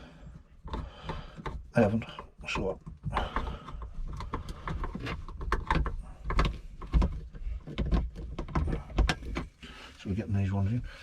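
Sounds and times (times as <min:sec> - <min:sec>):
hands handling plastic parts: 0:00.2 - 0:09.8
metal knocking on plastic: 0:00.6 - 0:09.6.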